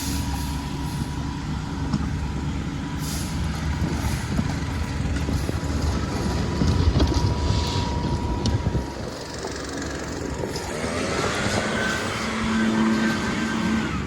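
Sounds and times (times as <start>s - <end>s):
truck diesel engine rumbling: 0.0s - 14.0s.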